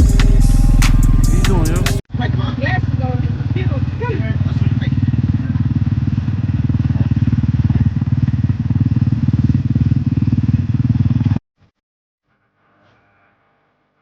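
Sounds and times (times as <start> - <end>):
dirt bike engine idling: 0.0 - 11.4.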